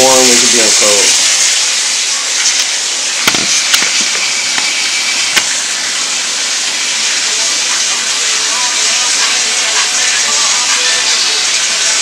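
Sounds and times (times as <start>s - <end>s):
water running in a bathtub: 0.0s - 12.0s.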